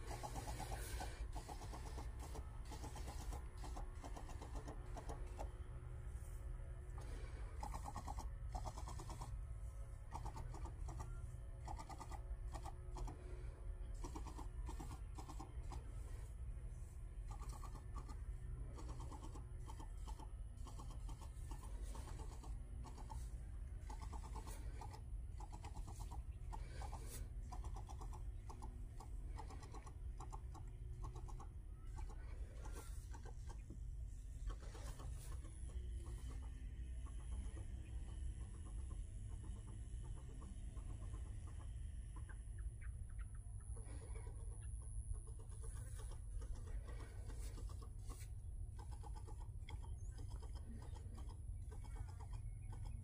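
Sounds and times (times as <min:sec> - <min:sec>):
faint birds chirping: 0:00.0 - 0:53.0.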